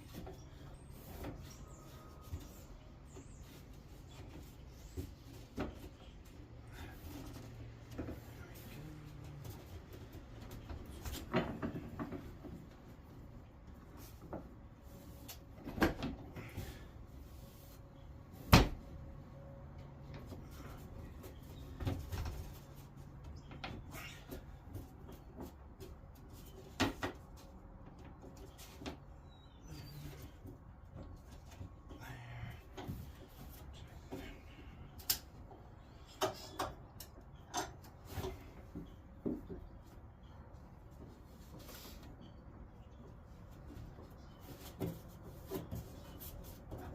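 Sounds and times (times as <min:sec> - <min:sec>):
light knocks and clicks of wood and tools: 0:00.0 - 0:17.0, 0:18.4 - 0:46.9.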